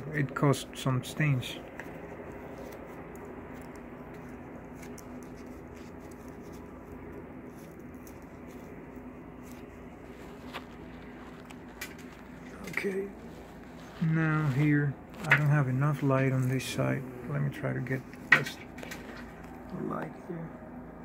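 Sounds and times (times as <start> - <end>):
room tone hum: 0.0 - 21.0.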